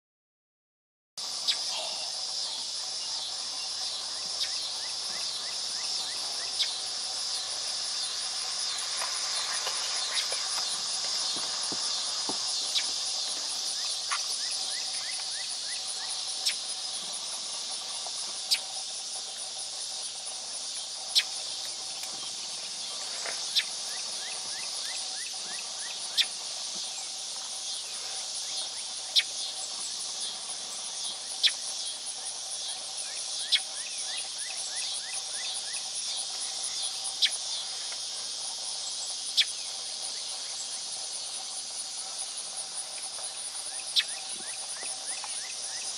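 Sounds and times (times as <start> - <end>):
field insects chorus: 1.2 - 45.9.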